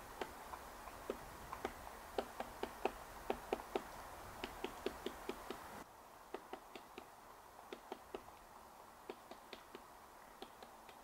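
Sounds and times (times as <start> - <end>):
woodpecker tapping on bark: 0.1 - 5.7, 6.3 - 7.1, 7.7 - 8.4, 9.0 - 11.0.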